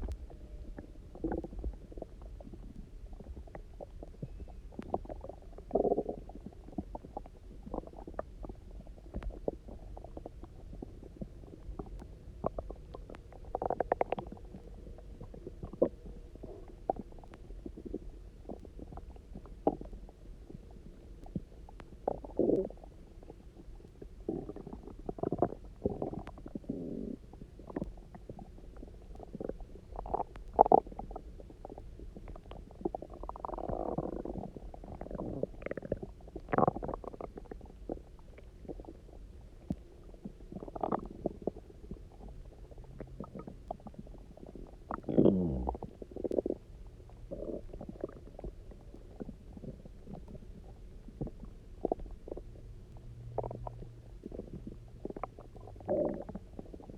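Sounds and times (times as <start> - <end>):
stomach gurgling and rumbling: 0.0 - 56.9.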